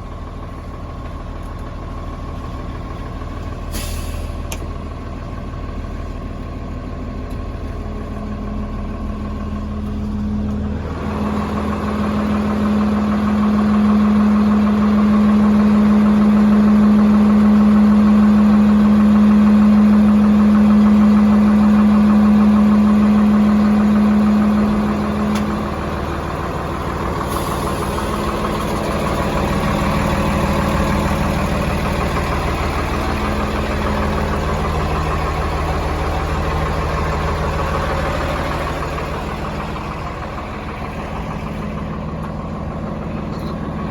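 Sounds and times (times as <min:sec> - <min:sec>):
truck diesel engine humming: 0:00.0 - 0:43.9.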